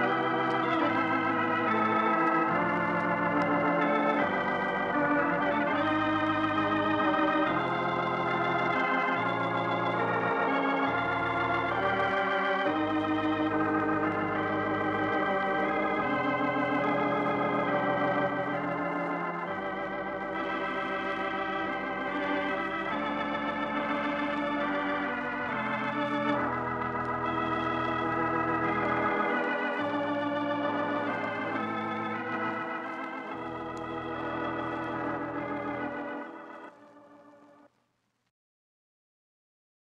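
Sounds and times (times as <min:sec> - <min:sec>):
organ chords with vibrato: 0:00.0 - 0:37.7.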